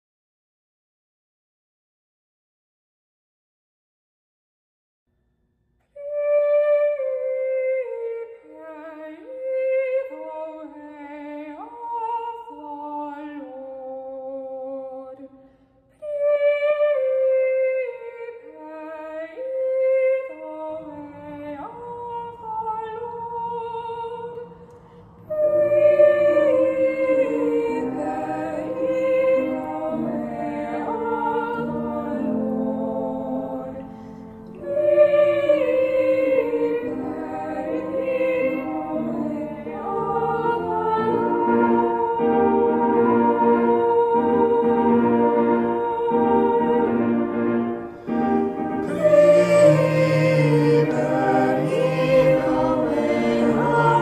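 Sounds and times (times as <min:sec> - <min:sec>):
female choir singing: 0:06.0 - 0:15.3, 0:16.0 - 0:54.0
lower voices in harmony: 0:06.0 - 0:54.0.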